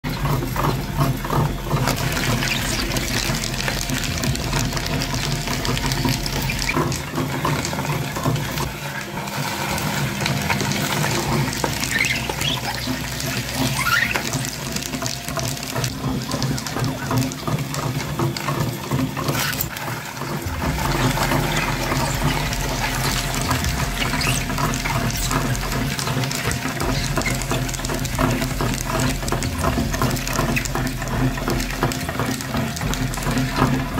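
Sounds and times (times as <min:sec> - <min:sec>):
meat grinder humming: 0:00.0 - 0:33.9
auger crunching brittle pieces: 0:00.1 - 0:33.9.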